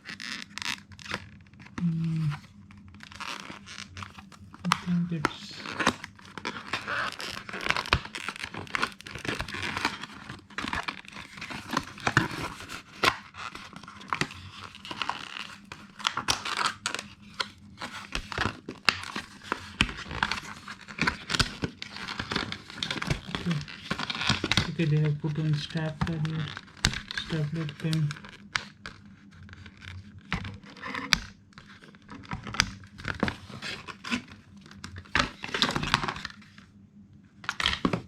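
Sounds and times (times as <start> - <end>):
packaging crinkling and tearing: 0.0 - 36.6, 37.4 - 38.0.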